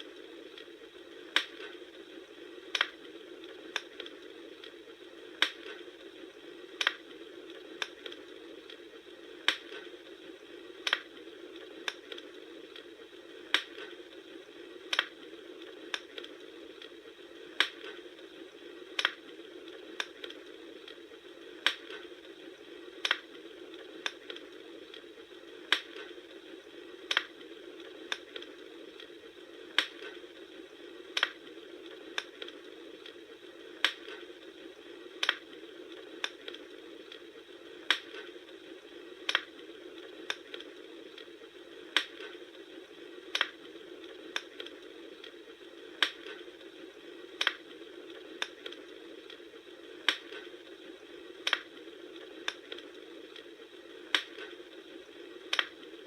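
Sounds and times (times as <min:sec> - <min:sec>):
bonfire hissing: 0:00.0 - 0:56.0
fire crackling pops: 0:00.0 - 0:56.0.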